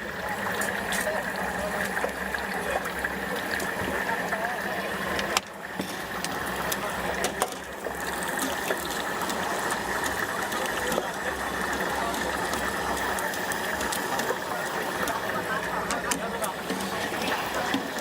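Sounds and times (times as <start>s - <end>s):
food deep-frying in hot oil: 0.0s - 18.0s
small oil crackles: 0.0s - 18.0s.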